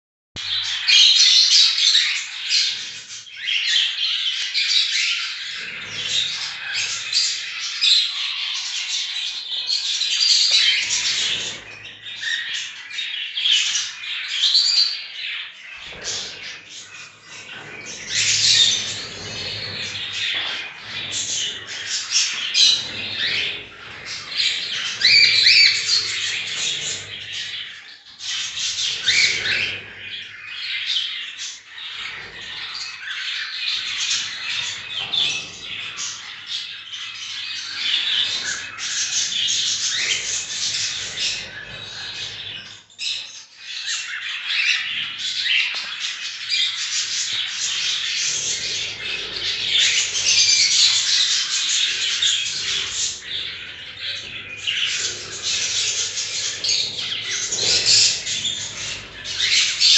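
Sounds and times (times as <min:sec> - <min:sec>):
cockatiels squawking and chirping: 0:00.5 - 0:59.9.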